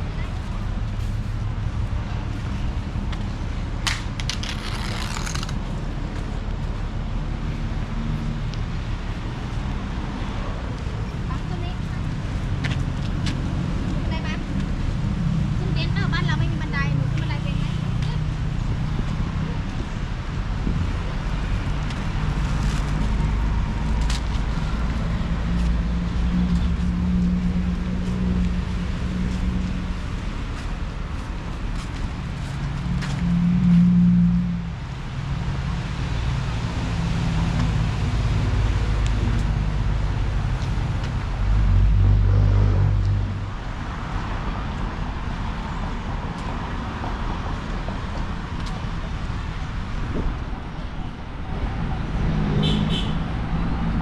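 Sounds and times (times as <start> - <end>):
low traffic rumble: 0.0 - 54.0.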